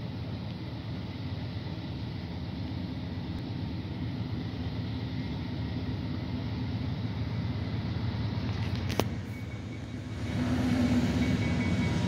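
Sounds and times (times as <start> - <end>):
diesel locomotives rumbling: 0.0 - 12.0.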